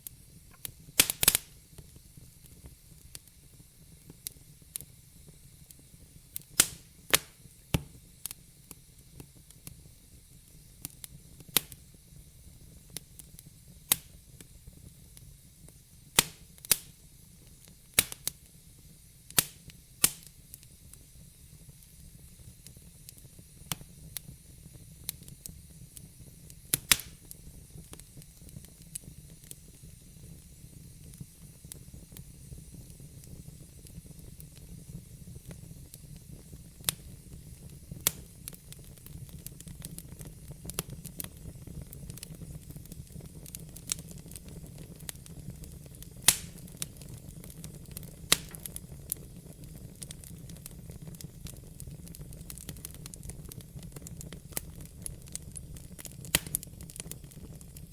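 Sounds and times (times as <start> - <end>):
fire crackling with sharp pops: 0.0 - 57.9
low rumble of burning fire: 0.0 - 57.9.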